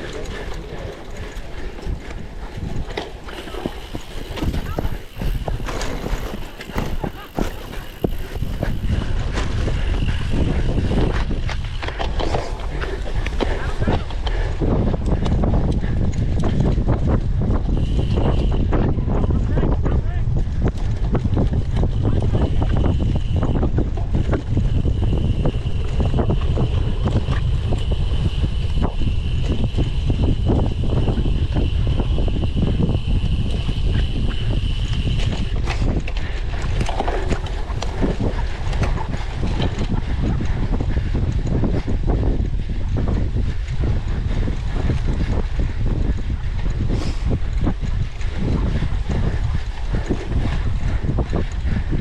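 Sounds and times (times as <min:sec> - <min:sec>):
bike rattling over rough ground: 0:00.0 - 0:52.0
wind buffeting microphone: 0:00.0 - 0:52.0.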